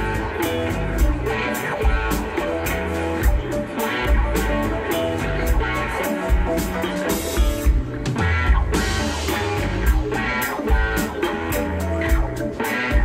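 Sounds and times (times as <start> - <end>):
bass: 0.0 - 13.0
drum kit: 0.0 - 13.0
electric guitar: 0.0 - 13.0
keyboards: 0.0 - 13.0.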